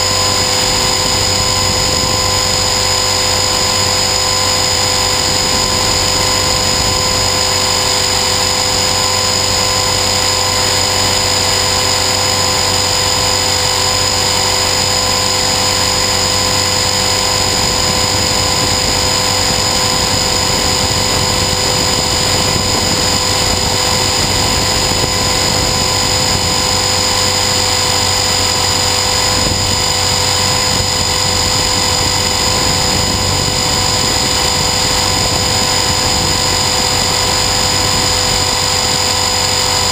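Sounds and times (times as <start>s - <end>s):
helicopter rotor noise: 0.0s - 39.9s
rc helicopter motor whine: 0.0s - 39.9s.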